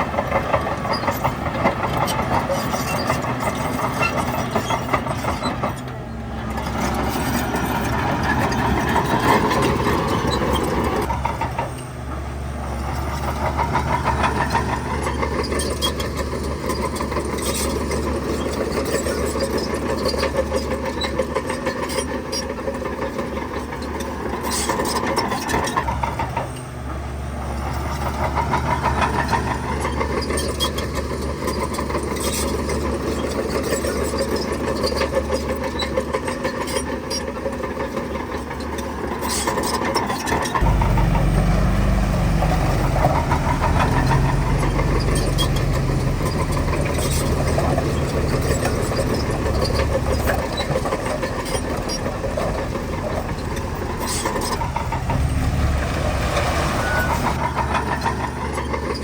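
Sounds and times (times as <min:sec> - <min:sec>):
diesel machinery droning: 0:00.0 - 0:59.0.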